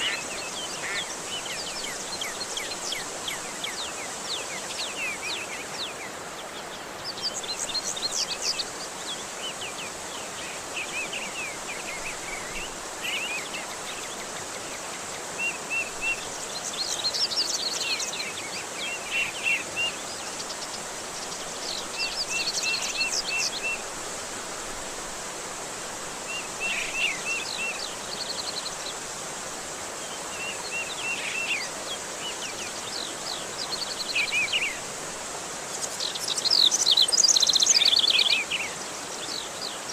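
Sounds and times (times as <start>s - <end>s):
songbird singing: 0.0s - 39.9s
steady hiss: 0.0s - 39.9s.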